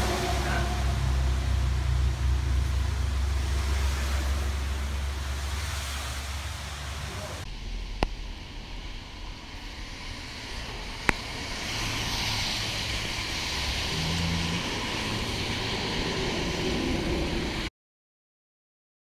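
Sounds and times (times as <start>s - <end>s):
rain on pavement and car: 0.0s - 17.7s.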